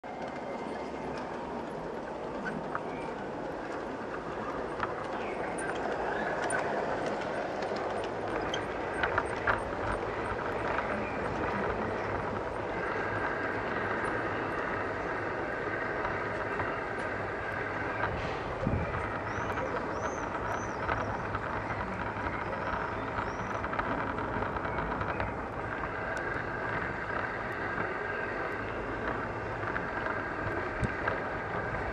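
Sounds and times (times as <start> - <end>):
model train wheels rumbling on rail: 0.0 - 31.9.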